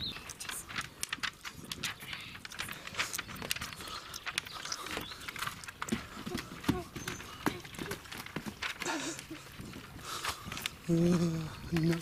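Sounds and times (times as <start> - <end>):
footsteps on stony trail: 0.0 - 12.0.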